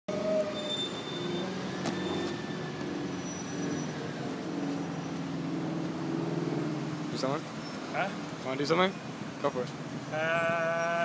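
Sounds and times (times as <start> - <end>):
city street traffic: 0.1 - 11.0.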